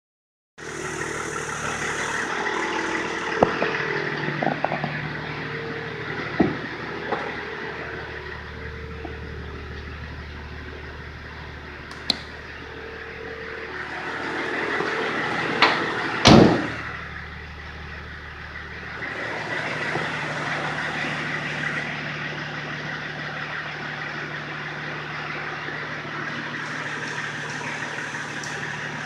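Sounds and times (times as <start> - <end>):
car engine humming: 0.6 - 29.0.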